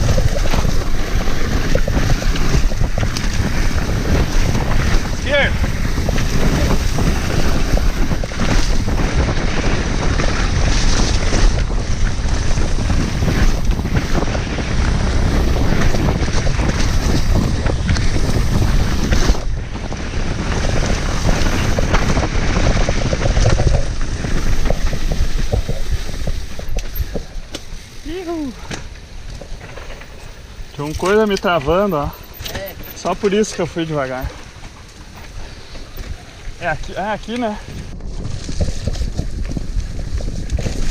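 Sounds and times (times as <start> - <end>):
bike rattling on rough ground: 0.0 - 40.9
wind buffeting microphone: 0.0 - 40.9.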